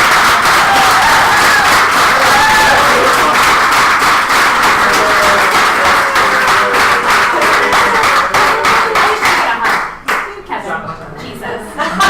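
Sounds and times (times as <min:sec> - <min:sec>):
audience applause: 0:00.0 - 0:10.3.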